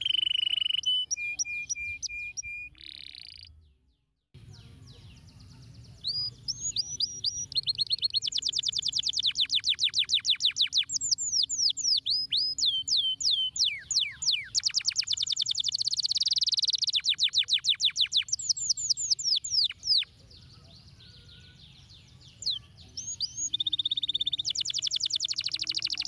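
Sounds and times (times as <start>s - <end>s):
canary singing: 0.0s - 3.6s, 4.6s - 26.0s.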